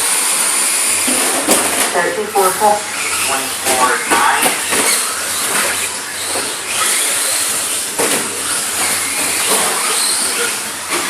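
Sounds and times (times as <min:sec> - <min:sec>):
radio-controlled cars running: 0:00.0 - 0:11.0.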